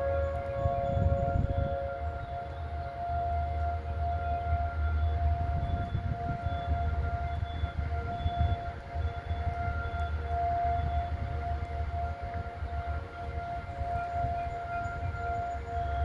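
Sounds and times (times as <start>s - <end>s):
low gusty rumble: 0.0s - 16.0s
warning sirens steady tone: 0.0s - 16.0s.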